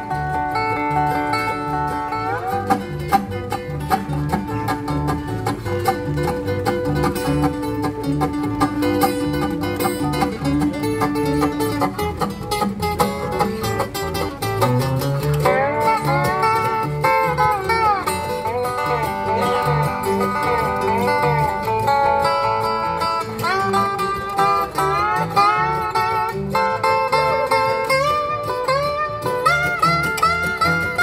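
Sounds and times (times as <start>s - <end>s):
acoustic guitar rhythm: 0.0s - 31.0s
plucked string lead: 0.0s - 31.0s
resonator guitar sliding notes: 0.0s - 31.0s
upright bass: 0.0s - 31.0s.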